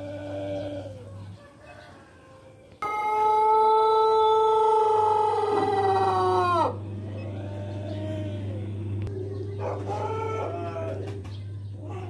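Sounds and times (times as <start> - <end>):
rooster crowing: 0.0 - 12.0
steady low hum: 0.0 - 12.0.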